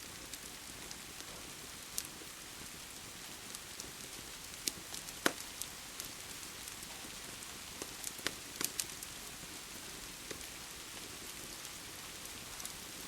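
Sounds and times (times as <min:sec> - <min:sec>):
steady rain hiss: 0:00.0 - 0:13.0
wood fire popping and crackling: 0:00.0 - 0:13.0.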